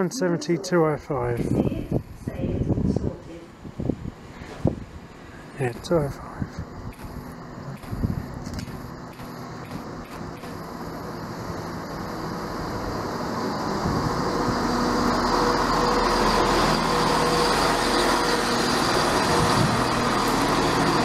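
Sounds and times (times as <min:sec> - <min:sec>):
diesel train arriving: 0:00.0 - 0:21.0.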